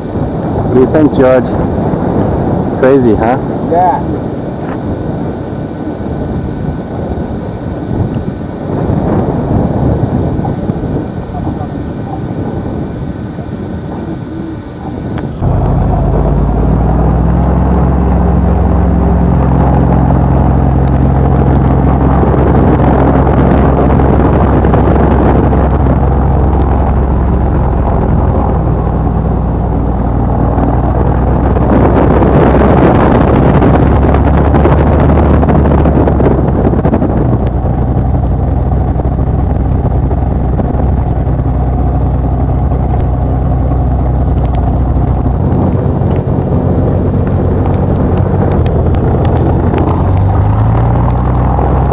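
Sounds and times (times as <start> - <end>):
rushing air noise: 0.0 - 51.9
plane piston engine running: 4.2 - 51.9.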